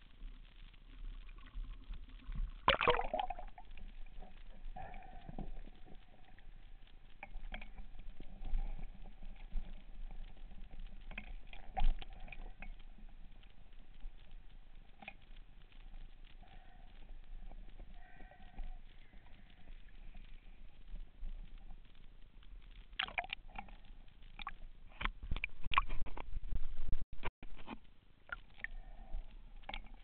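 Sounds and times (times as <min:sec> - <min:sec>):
faint steady tone: 0:00.0 - 0:25.4
water noise: 0:00.0 - 0:30.0
underwater knocks and clicks: 0:00.5 - 0:22.1, 0:22.7 - 0:30.0.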